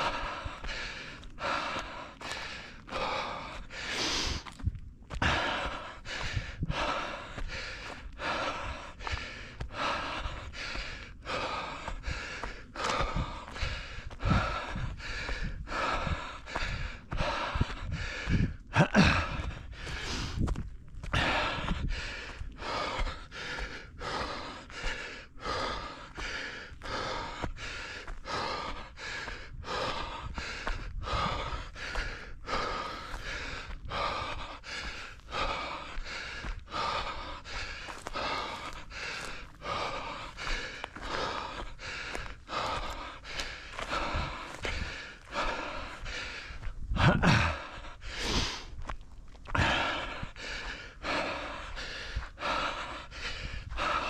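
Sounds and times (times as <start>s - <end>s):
runner panting: 0.0s - 54.0s.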